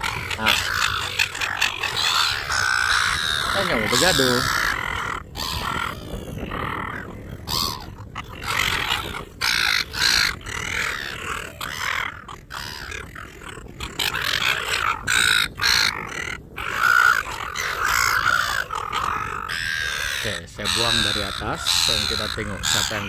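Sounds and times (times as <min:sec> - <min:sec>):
wild birds squawking: 0:00.0 - 0:23.0.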